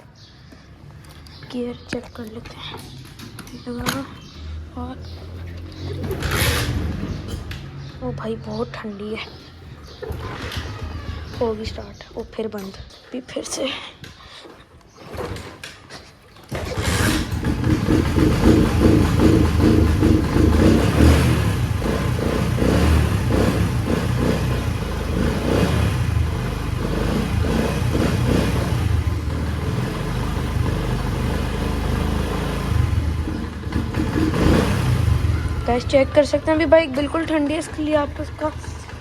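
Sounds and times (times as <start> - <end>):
motorcycle engine starting and idling: 0.1 - 12.7, 14.9 - 39.0.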